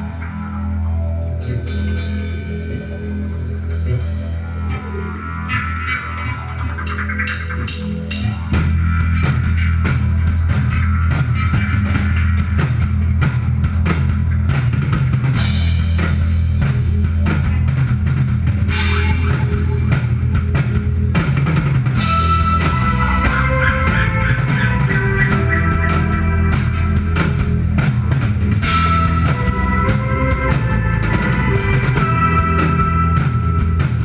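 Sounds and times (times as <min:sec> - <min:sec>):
live band music: 0:00.0 - 0:34.0.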